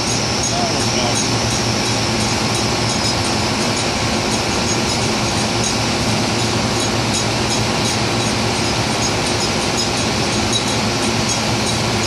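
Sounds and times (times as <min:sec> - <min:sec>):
drilling rig machinery drone: 0:00.0 - 0:12.0.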